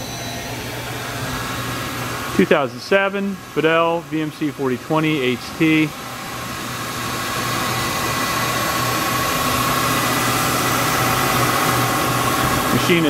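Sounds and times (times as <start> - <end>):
machine hum and hiss with whine: 0.0 - 13.0.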